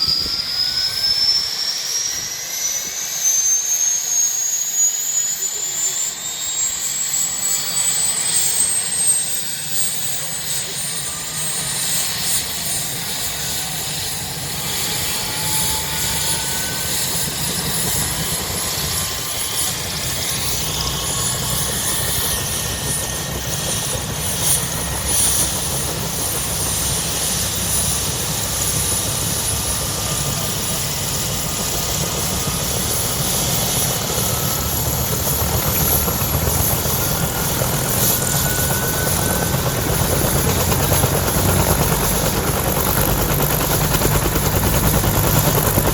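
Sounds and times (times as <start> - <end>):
helicopter rotor beat: 0.0 - 45.9
helicopter turbine whine: 0.0 - 45.9.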